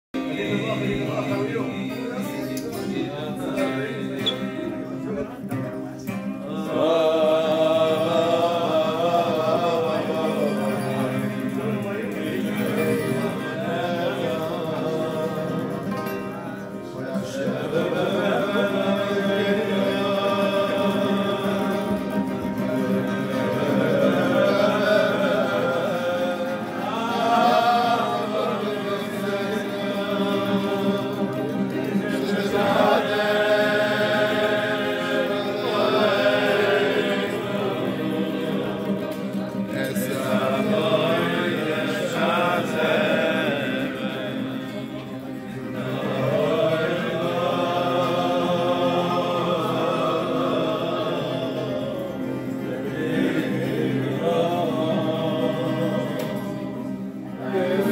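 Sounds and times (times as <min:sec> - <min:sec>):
men singing in chorus: 0:00.1 - 0:05.4, 0:06.1 - 0:57.9
sustained instrumental accompaniment: 0:00.2 - 0:57.9.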